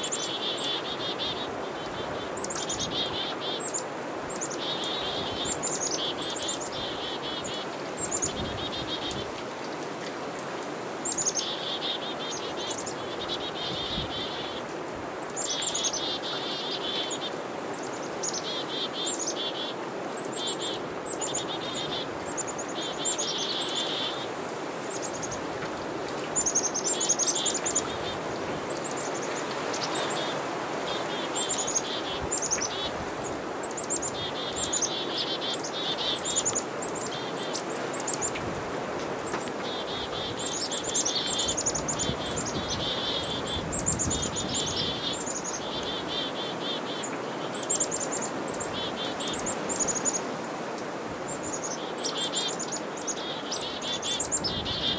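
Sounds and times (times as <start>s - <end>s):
chickadees calling: 0.0s - 9.3s, 11.0s - 25.5s, 26.2s - 50.5s, 51.2s - 54.9s.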